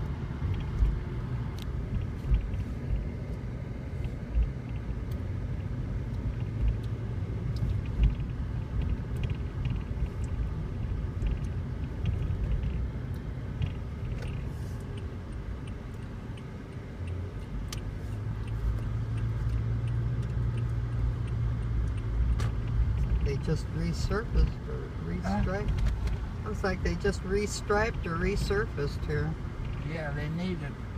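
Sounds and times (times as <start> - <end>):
car interior rumble: 0.0 - 30.9.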